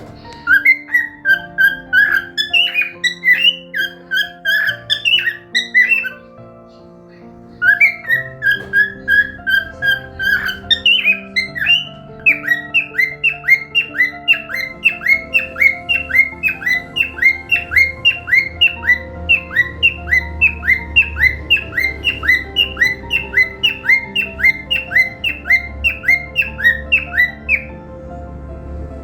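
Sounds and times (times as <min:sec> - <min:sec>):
cockatiel chirping: 0:00.0 - 0:27.8
background music with held notes: 0:00.0 - 0:29.0.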